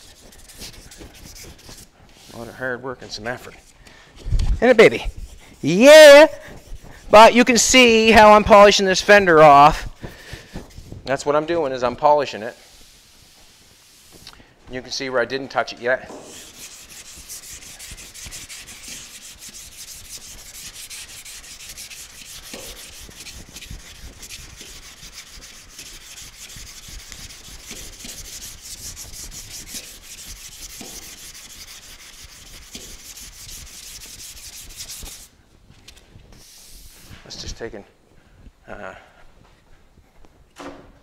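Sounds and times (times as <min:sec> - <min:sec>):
hand sanding scratchy strokes: 0:00.0 - 0:14.3, 0:14.9 - 0:35.4, 0:36.3 - 0:37.7.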